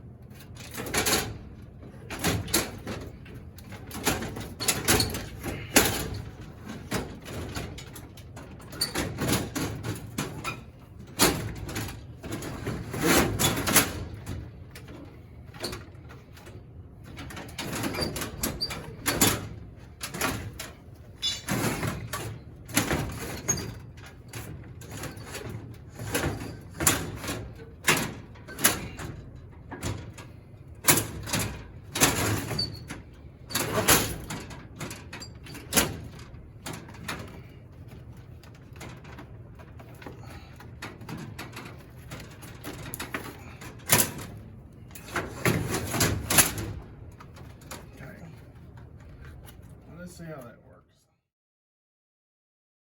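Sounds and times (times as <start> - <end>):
hard parts knocking and rattling: 0.2 - 49.8.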